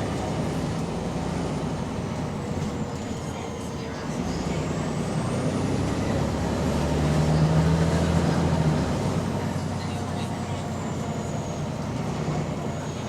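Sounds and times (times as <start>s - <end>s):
bus diesel engine pulling: 0.0s - 13.0s.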